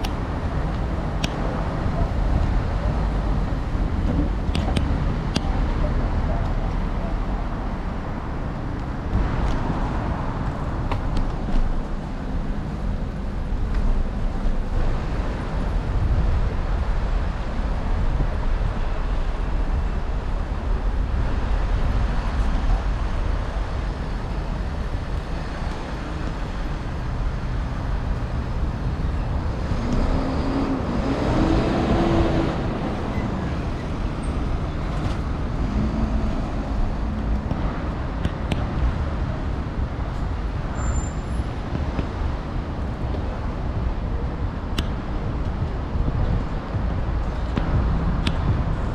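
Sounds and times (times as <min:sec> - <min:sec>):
traffic rumble: 0:00.0 - 0:48.9.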